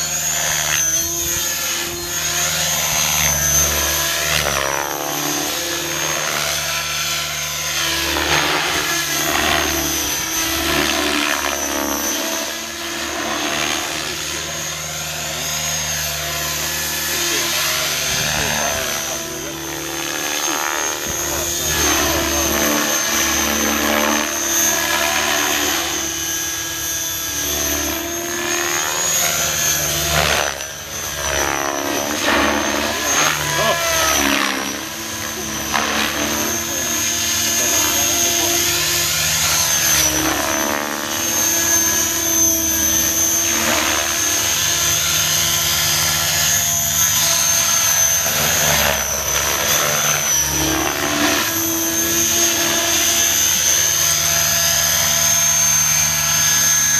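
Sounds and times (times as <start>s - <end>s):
model helicopter rotor whine: 0.0s - 56.9s.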